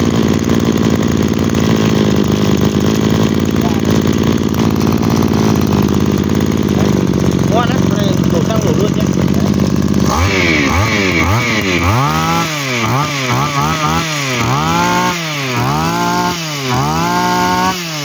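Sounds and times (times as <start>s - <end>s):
brush cutter engine revving: 0.0s - 18.0s.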